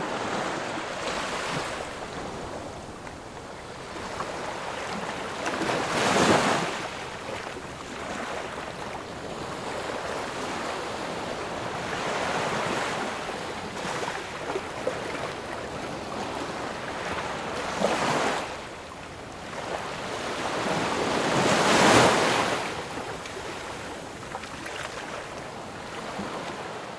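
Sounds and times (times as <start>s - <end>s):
ocean waves breaking: 0.0s - 26.9s.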